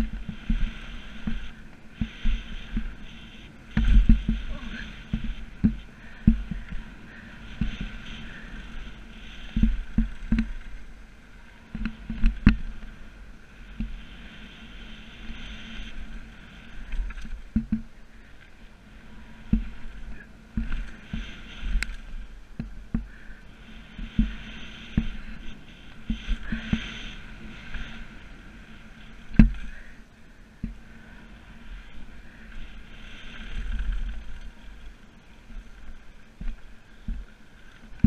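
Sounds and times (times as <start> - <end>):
hiss of rolling tyres: 0.0 - 17.2, 18.2 - 37.9
bike knocking and rattling: 0.0 - 31.2, 31.8 - 38.0
wind: 0.0 - 38.0.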